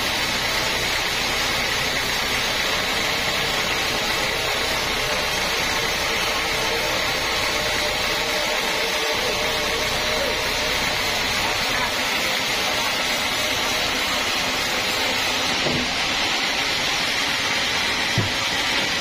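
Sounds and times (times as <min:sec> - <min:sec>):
bandsaw running: 0:00.0 - 0:19.0.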